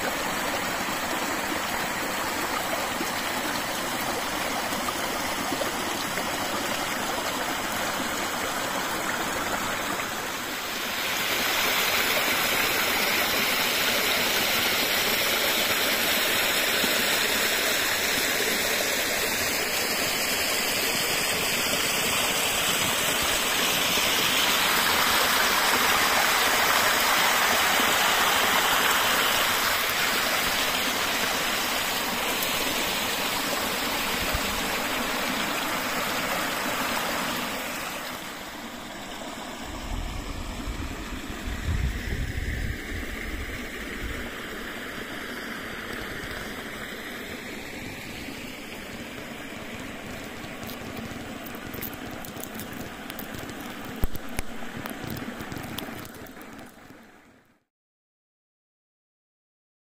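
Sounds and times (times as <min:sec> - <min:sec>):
stream rushing over rocks: 0:00.0 - 0:57.4.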